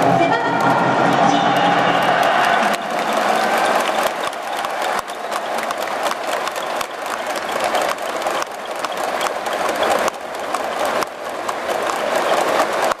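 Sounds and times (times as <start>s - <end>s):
stadium crowd applauding: 0.0s - 13.0s.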